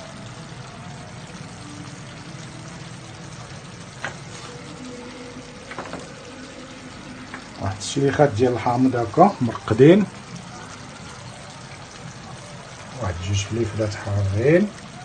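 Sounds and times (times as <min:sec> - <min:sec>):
tagine hissing over gas flame: 0:00.0 - 0:15.0.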